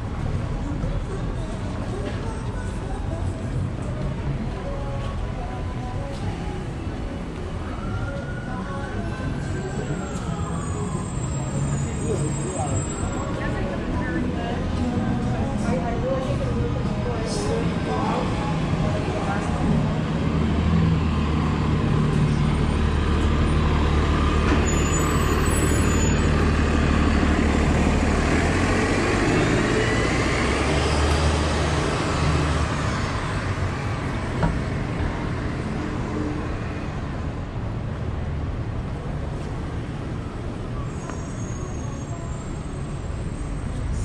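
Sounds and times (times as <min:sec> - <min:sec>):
heavy vehicle engine droning: 0:00.0 - 0:44.0
street traffic: 0:00.0 - 0:44.0.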